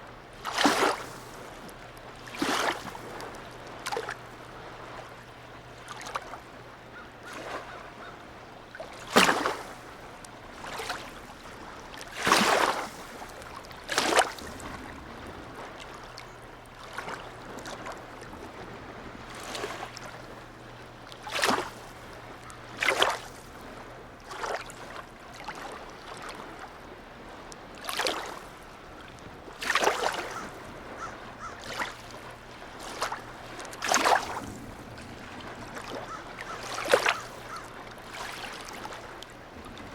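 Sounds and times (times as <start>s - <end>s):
small waves slapping: 0.0s - 39.9s
water lapping: 0.0s - 39.9s.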